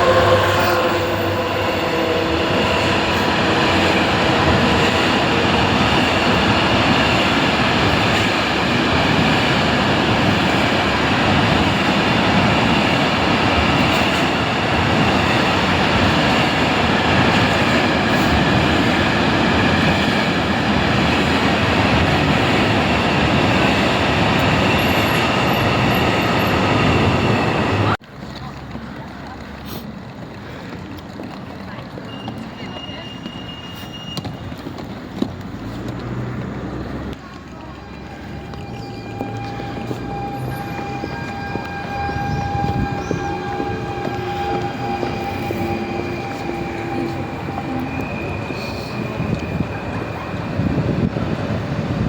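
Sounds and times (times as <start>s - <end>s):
train wheels rolling on rails: 0.0s - 52.0s.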